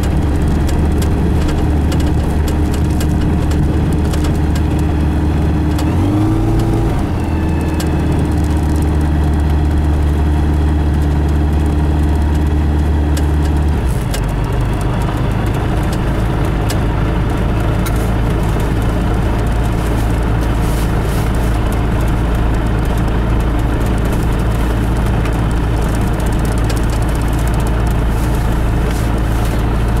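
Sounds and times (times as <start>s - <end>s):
light aircraft engine droning: 0.0s - 30.0s.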